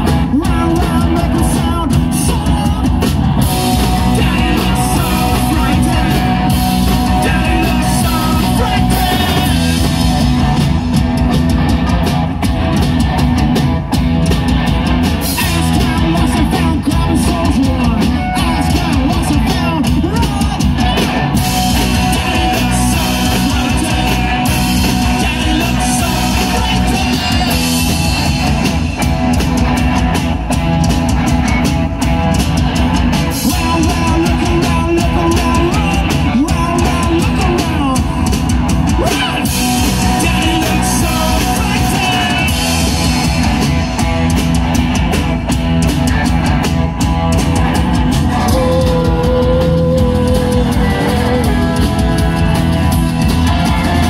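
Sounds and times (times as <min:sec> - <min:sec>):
drum kit beat: 0:00.0 - 0:54.0
electric bass: 0:00.0 - 0:54.0
electric guitars: 0:00.0 - 0:54.0.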